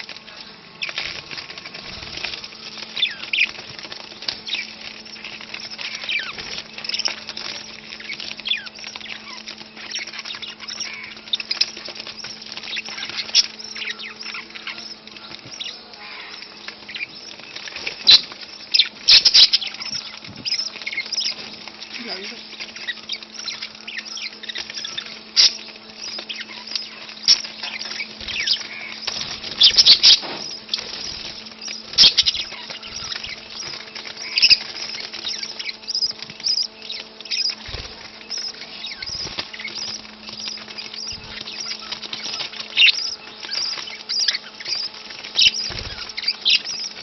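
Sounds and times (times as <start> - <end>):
birds pecking at seed: 0.0 - 47.0
budgerigars chirping: 0.0 - 47.0
steady low hum: 0.0 - 47.0.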